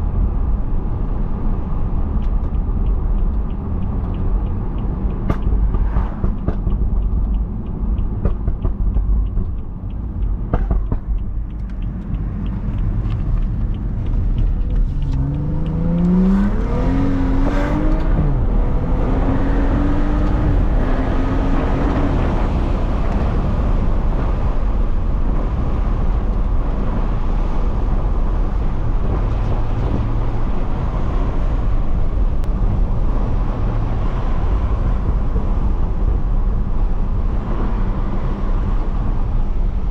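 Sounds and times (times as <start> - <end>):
car engine accelerating: 0.0 - 39.9
tyre and road noise: 0.0 - 39.9.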